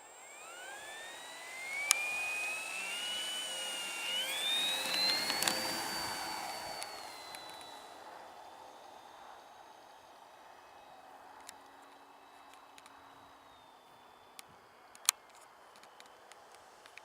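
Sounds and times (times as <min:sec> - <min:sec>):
model airplane motor whining: 0:00.0 - 0:17.0.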